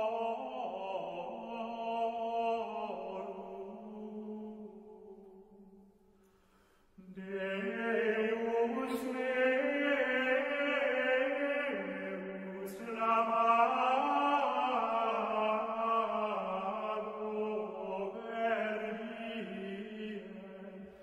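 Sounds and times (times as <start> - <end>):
slow religious chant: 0.0 - 21.0.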